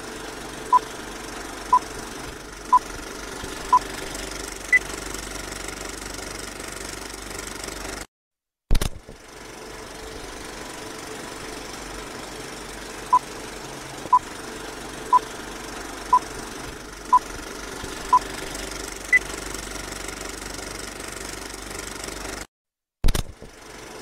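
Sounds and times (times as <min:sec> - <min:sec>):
film projector clatter: 0:00.0 - 0:08.1, 0:08.8 - 0:22.5, 0:23.1 - 0:24.0.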